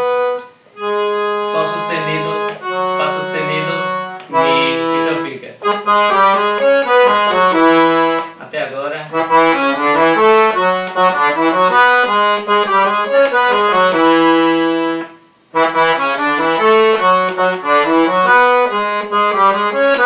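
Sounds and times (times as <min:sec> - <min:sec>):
accordion melody: 0:00.0 - 0:20.0.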